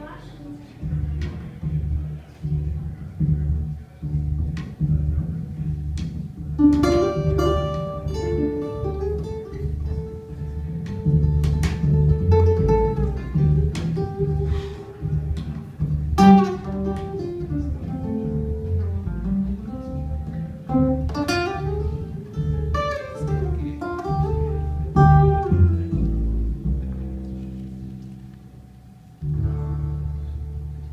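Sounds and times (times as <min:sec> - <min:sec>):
acoustic guitar: 0:00.0 - 0:30.9
plucked double bass: 0:00.0 - 0:30.9.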